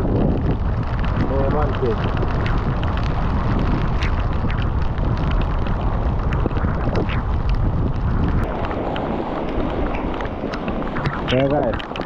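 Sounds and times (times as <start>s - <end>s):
splashing water crackles: 0.0s - 12.0s.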